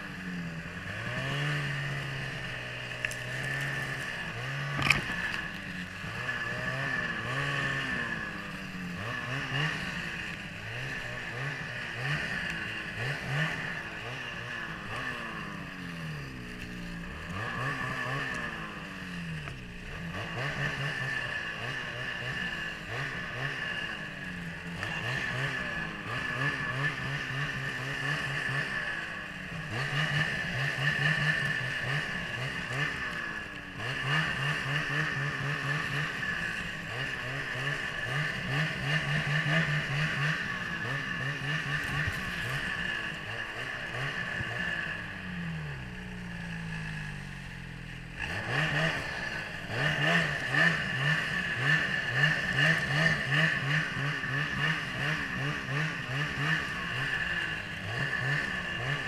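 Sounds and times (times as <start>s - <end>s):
snowmobile engine revving: 0.0s - 59.0s.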